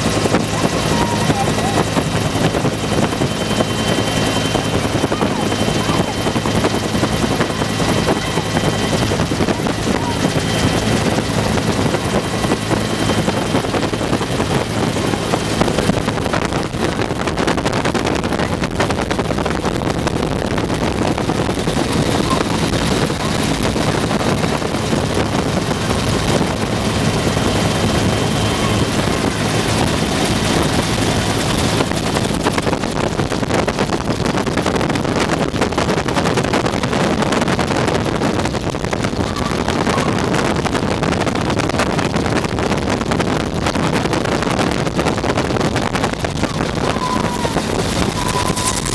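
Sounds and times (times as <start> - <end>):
helicopter engine and rotor noise: 0.0 - 48.9
wind rushing over microphone: 0.0 - 48.9.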